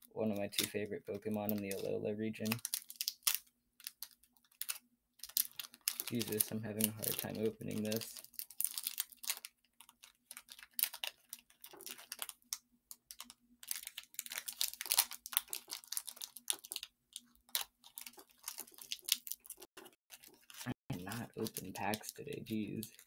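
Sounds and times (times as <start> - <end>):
foil wrapper crinkling: 0.4 - 23.0.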